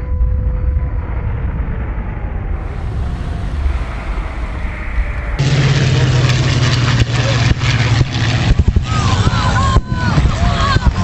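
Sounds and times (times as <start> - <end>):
explosion rumble: 0.0 - 11.0
steady low hum: 0.0 - 11.0.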